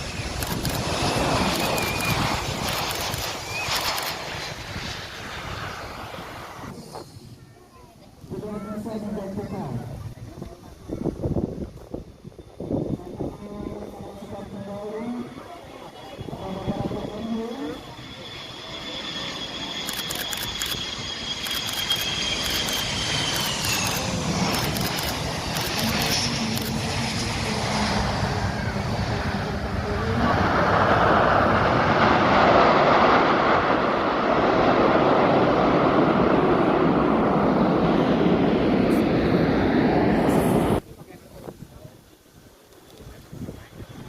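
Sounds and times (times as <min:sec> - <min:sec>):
aircraft engine rush: 0:00.0 - 0:44.0
aircraft high whine: 0:00.0 - 0:44.0.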